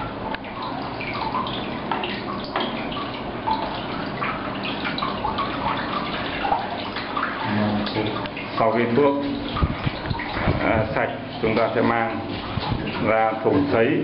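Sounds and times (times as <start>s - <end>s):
water dripping: 0.0s - 14.0s
water splashing in tank: 0.0s - 14.0s.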